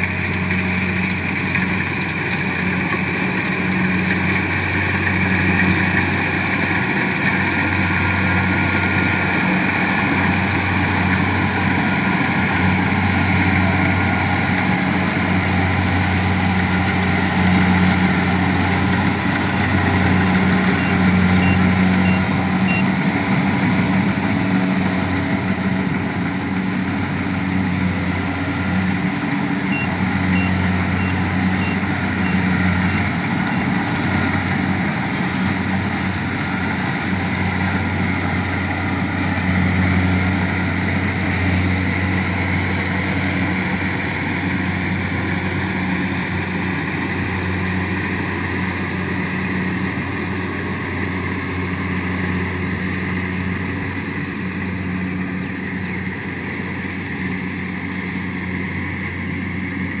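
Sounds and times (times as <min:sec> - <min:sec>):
harvesting machine engine running: 0:00.0 - 1:00.0.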